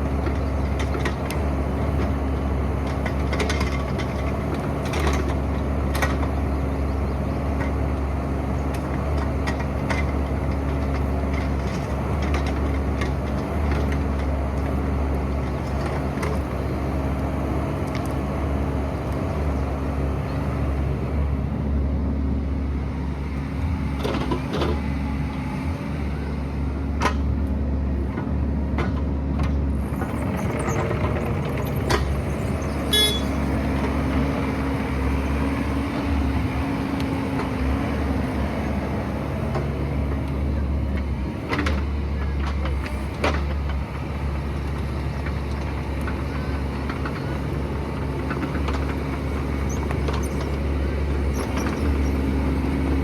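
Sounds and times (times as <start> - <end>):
excavator engine running: 0.0 - 53.0.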